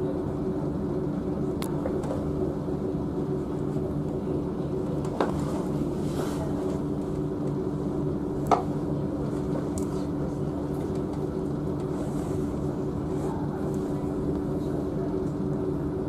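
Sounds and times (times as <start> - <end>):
train engine humming: 0.0 - 16.0.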